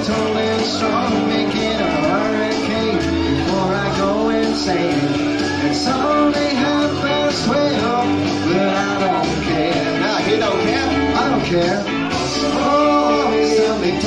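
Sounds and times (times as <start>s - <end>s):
bass guitar backing: 0.0s - 14.0s.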